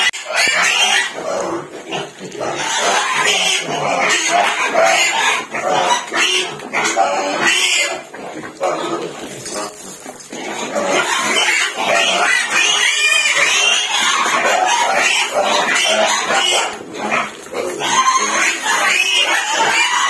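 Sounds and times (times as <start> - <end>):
farm animals crying: 0.0 - 20.0.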